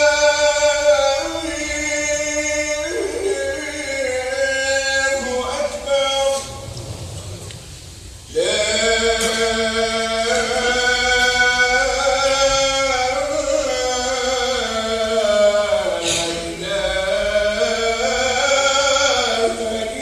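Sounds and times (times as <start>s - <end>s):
man chanting call to prayer: 0.0s - 7.0s, 8.3s - 20.0s.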